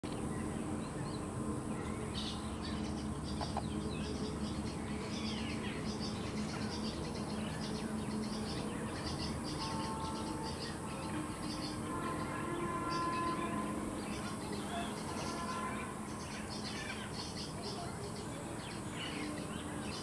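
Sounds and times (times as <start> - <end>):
many birds chirping: 0.0 - 20.0
steady low hum: 0.0 - 20.0.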